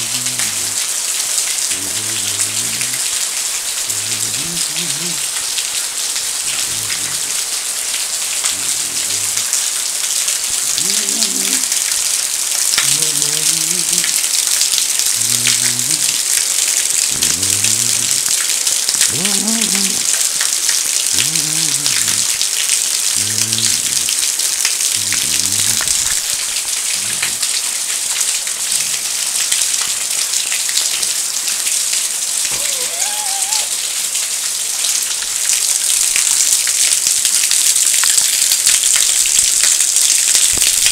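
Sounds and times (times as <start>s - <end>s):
heavy rain splashing on concrete: 0.0s - 40.9s.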